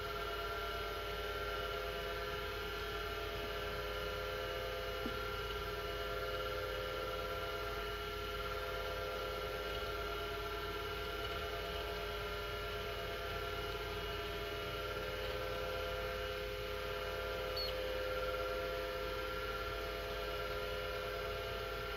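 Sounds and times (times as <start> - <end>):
hard disk drive whine: 0.0 - 21.9.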